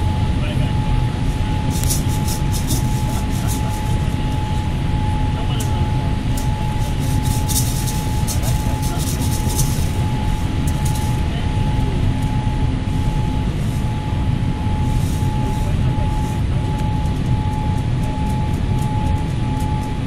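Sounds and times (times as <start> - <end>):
airliner cabin engine roar: 0.0 - 20.0
high hum: 0.0 - 20.0.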